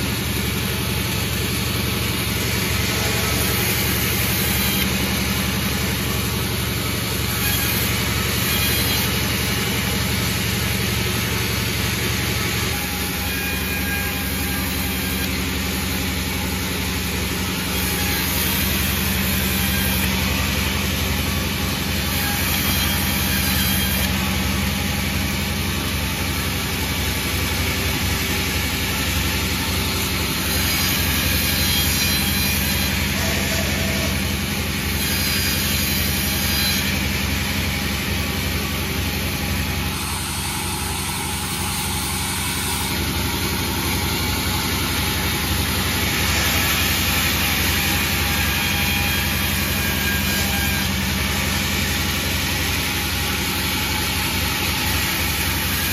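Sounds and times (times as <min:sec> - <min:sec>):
sawmill cutting log: 0:00.0 - 0:55.9.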